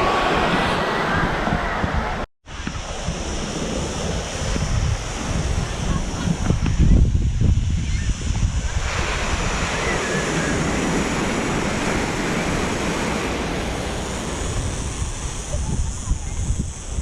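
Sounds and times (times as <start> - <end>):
sea waves washing up beach: 0.0 - 17.0
wind buffeting microphone: 0.0 - 17.0.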